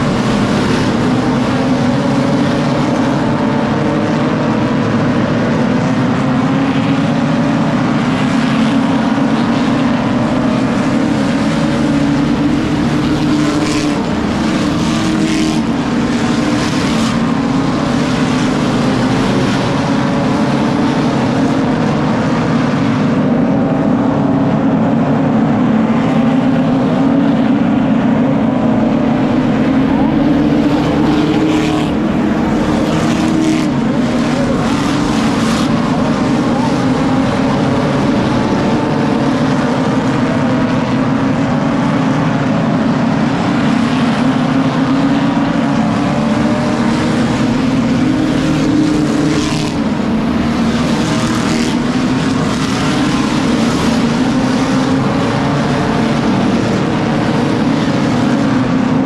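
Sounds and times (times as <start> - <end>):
racing car engines droning: 0.0 - 59.0.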